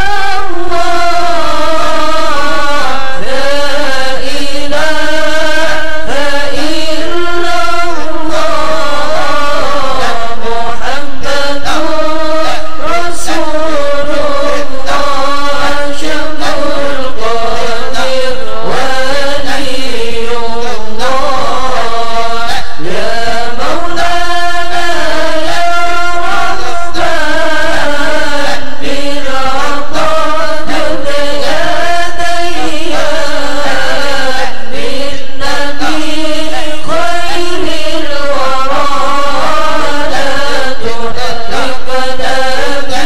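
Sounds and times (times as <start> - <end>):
person chanting slow melody: 0.0 - 43.0.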